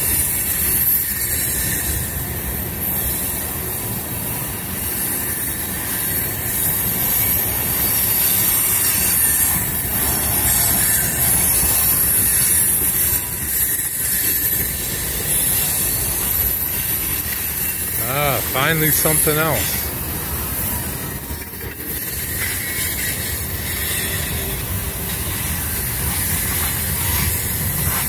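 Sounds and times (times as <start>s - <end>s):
wheel hiss and squeal: 0.0s - 18.4s, 21.9s - 28.0s
train wheels rumbling on rail: 0.0s - 28.0s.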